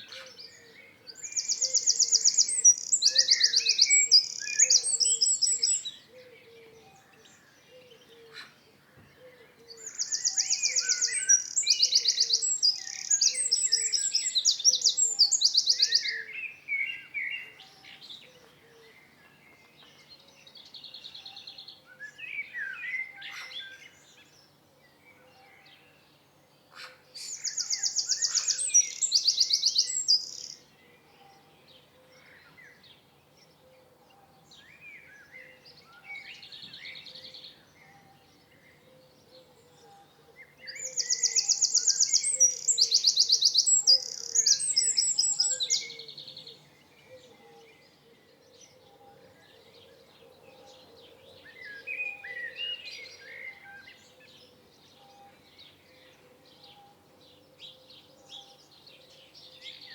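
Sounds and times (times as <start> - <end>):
quiet bird chirps: 0.0 - 59.9
songbirds trilling: 0.0 - 59.9.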